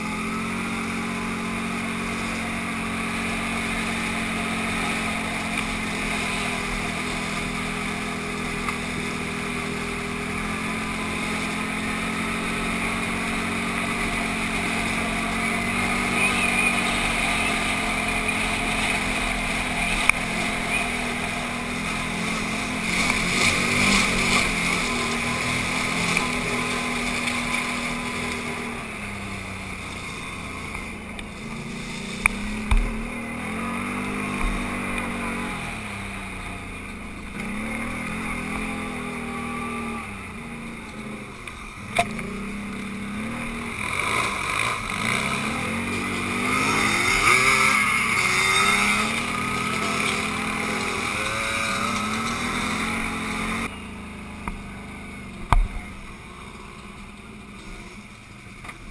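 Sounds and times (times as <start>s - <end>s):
quad engine revving: 0.0s - 58.9s.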